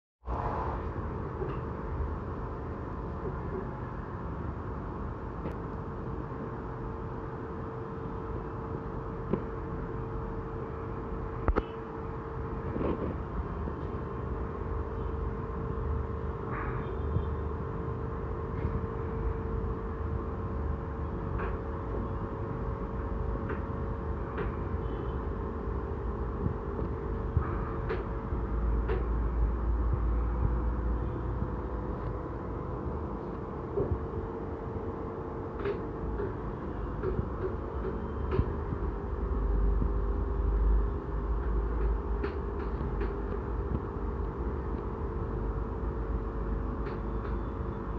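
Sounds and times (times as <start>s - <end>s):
machine hum: 0.2s - 47.9s.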